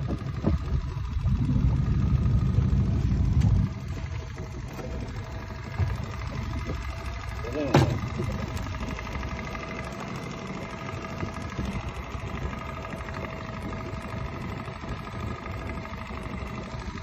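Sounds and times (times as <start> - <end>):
outboard motor idling: 0.0 - 17.0
wind and water rumble: 0.0 - 17.0.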